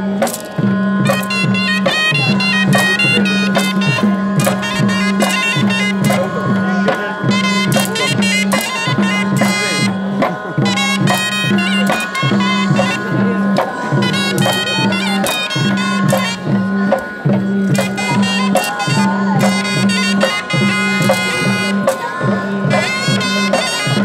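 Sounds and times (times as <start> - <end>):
drone tones: 0.0 - 24.0
repeating drumbeat: 0.0 - 24.0
shrill piping melody: 0.0 - 24.0
sharp stick clacks: 0.2 - 20.4.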